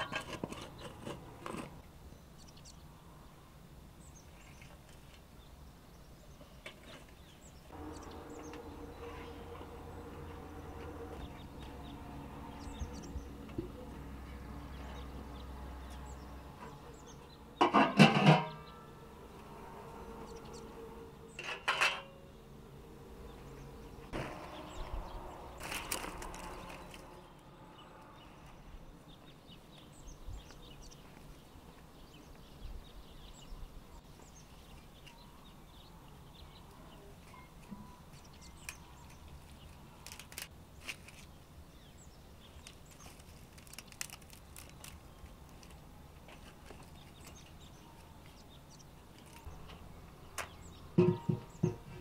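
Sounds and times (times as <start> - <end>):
faint rural ambience: 0.0 - 52.0.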